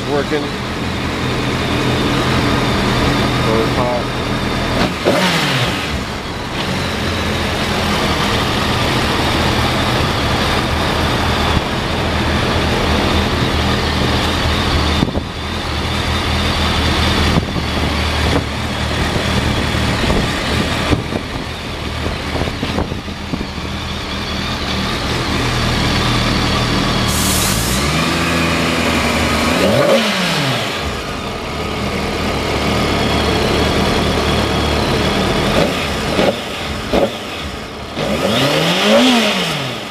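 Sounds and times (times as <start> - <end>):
motorcycle engine idling: 0.0 - 38.1
engine revving: 0.0 - 39.9.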